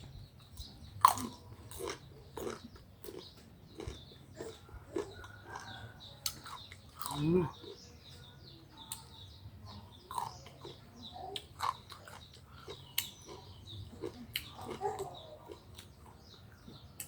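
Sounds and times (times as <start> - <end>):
people crunching unripe mango: 0.4 - 7.8, 10.0 - 17.0
faint bird chirps: 2.4 - 17.0.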